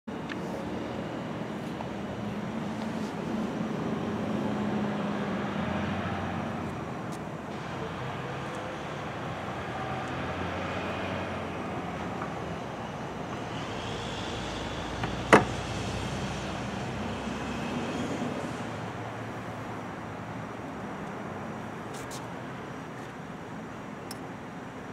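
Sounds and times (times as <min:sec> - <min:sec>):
road traffic: 0:00.1 - 0:24.9.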